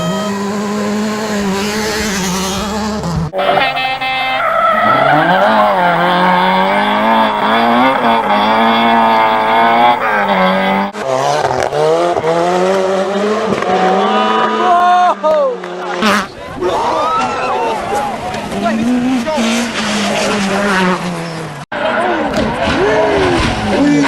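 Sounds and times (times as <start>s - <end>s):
rally car engine revving: 0.0s - 16.5s, 17.2s - 24.0s.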